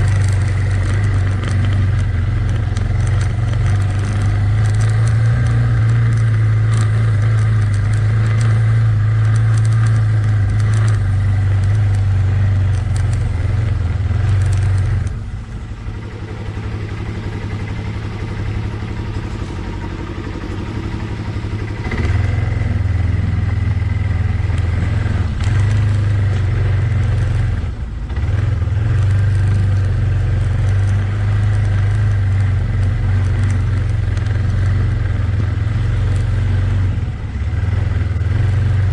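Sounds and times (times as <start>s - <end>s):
atv engine running under throttle: 0.0s - 38.9s.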